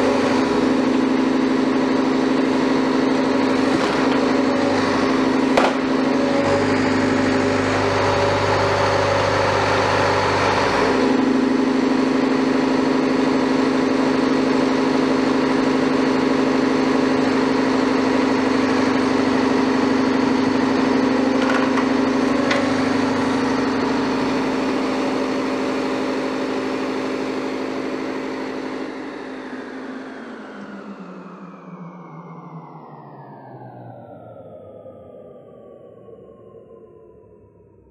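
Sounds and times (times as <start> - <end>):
excavator diesel engine running: 0.0 - 34.8.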